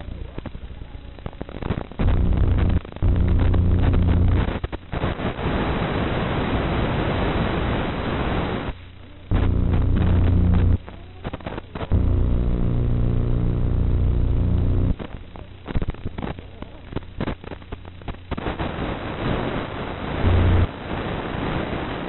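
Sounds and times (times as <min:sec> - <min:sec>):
loud static hiss: 0:00.0 - 0:22.0
low electrical buzz: 0:00.0 - 0:22.0.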